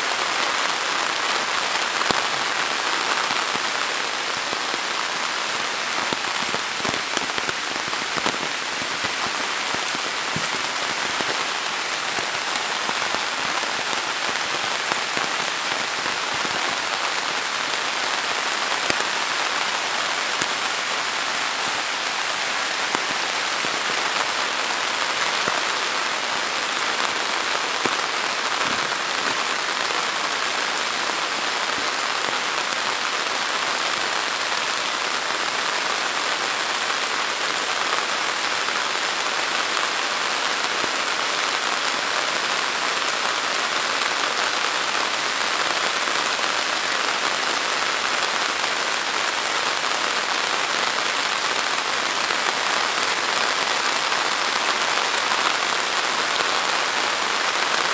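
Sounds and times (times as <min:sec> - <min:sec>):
heavy rain on leaves and road: 0:00.0 - 0:57.9.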